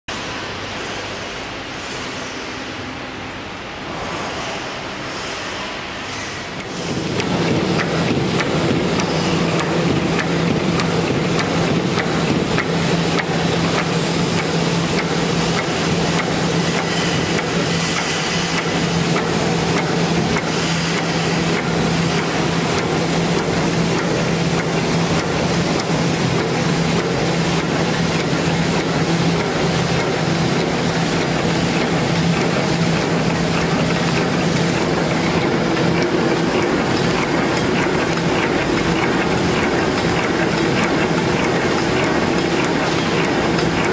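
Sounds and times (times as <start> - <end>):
packaging machine running: 6.6 - 43.9.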